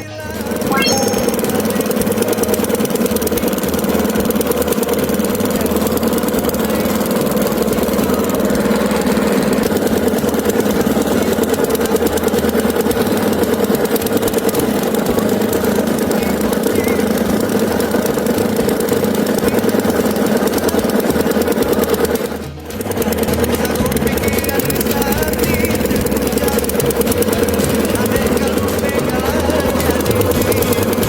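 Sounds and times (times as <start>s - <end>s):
small boat engine running: 0.0s - 31.0s.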